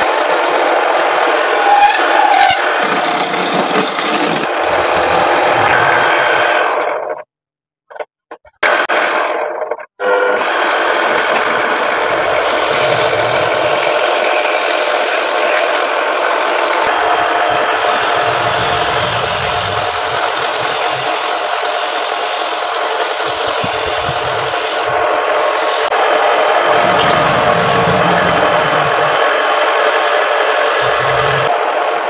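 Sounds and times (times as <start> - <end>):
wood lathe running: 0.0 - 7.0, 10.0 - 32.0
tool scraping spinning wood: 0.0 - 7.2, 12.3 - 16.9, 17.7 - 32.0.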